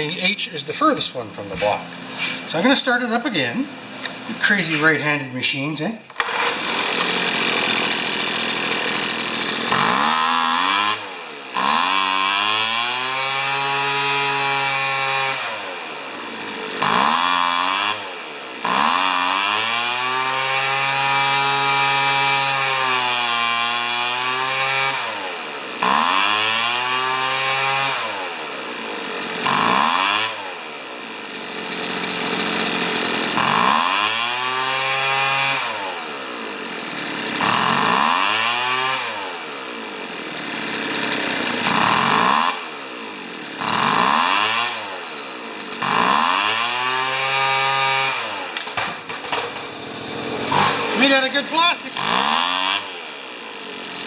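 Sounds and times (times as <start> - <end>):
leaf blower engine revving: 0.0 - 54.0.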